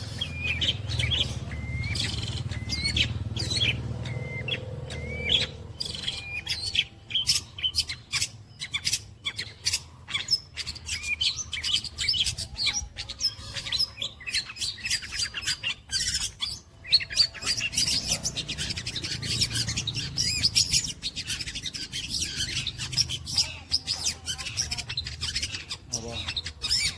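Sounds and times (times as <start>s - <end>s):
shrike singing chirps and chatter: 0.0s - 26.9s.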